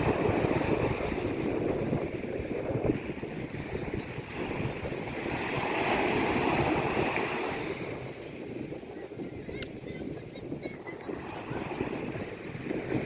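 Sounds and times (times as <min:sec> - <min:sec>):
sea waves breaking: 0:00.0 - 0:13.0.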